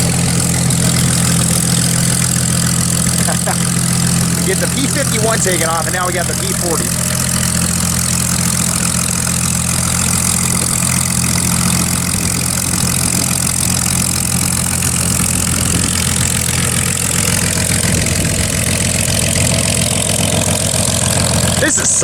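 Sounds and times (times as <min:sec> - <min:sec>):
piston aircraft engine idling: 0:00.0 - 0:22.0.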